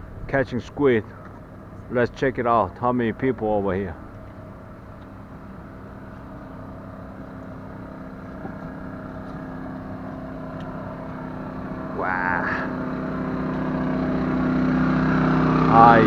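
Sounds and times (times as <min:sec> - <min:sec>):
steady engine hum: 0:00.0 - 0:16.0.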